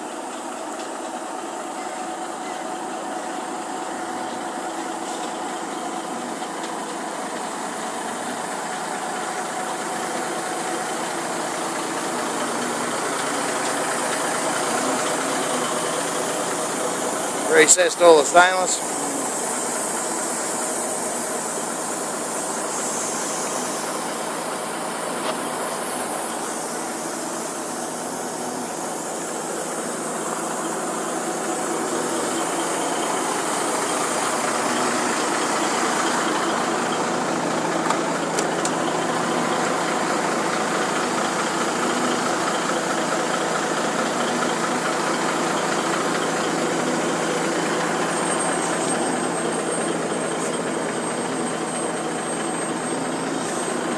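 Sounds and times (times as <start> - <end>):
truck diesel engine idling: 0.0 - 53.9.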